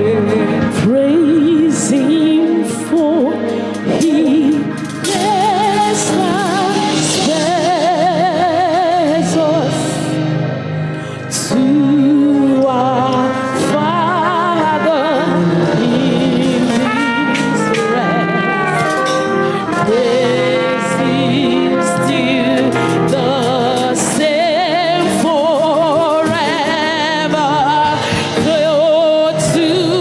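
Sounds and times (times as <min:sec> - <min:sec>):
instrumental accompaniment: 0:00.0 - 0:30.0
person singing with vibrato: 0:00.0 - 0:30.0.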